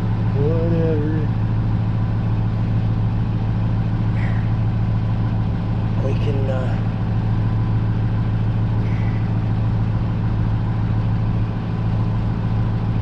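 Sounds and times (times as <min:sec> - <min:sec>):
machine humming steadily: 0:00.0 - 0:13.0.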